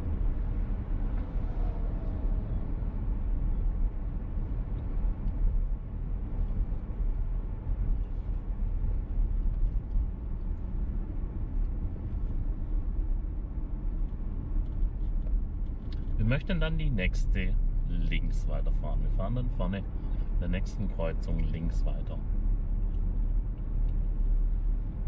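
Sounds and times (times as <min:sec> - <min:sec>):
road and engine noise in car: 0:00.0 - 0:25.0.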